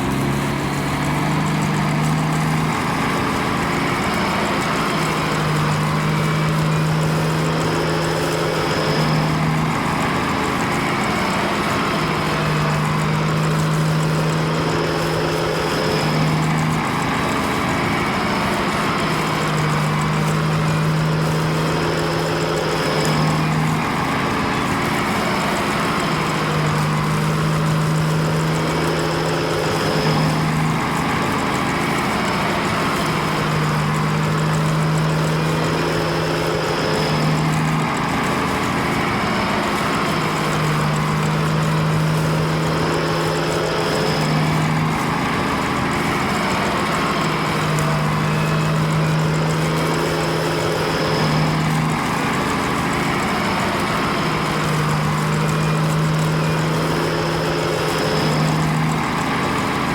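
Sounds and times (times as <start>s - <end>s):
cartoon vehicle engine hum: 0.0s - 59.9s.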